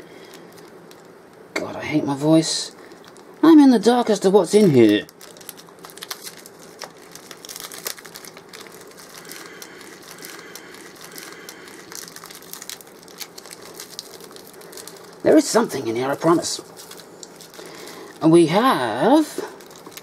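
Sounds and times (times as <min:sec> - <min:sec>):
plastic wrapping and tape crinkling: 0:00.0 - 0:20.0.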